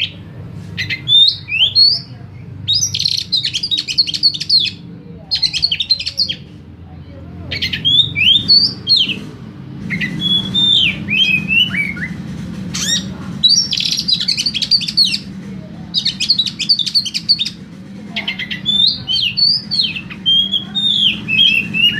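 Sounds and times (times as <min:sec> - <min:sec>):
steady low hum: 0:00.0 - 0:21.9
songbird singing whistled phrases: 0:00.8 - 0:06.5, 0:07.5 - 0:09.2, 0:09.9 - 0:15.2, 0:15.9 - 0:17.6, 0:18.2 - 0:21.9.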